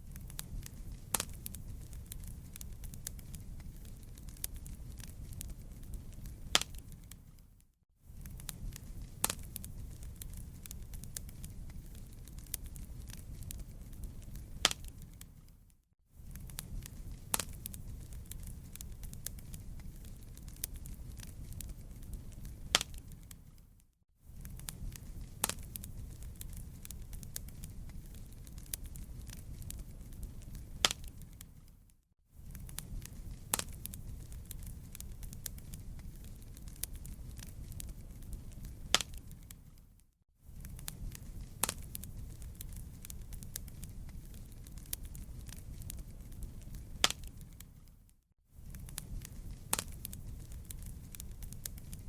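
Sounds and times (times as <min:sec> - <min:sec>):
wood fire rumbling: 0:00.0 - 0:07.5, 0:08.1 - 0:15.6, 0:16.2 - 0:23.7, 0:24.3 - 0:31.8, 0:32.4 - 0:39.9, 0:40.5 - 0:48.0, 0:48.6 - 0:52.0
fire crackling: 0:00.0 - 0:52.0.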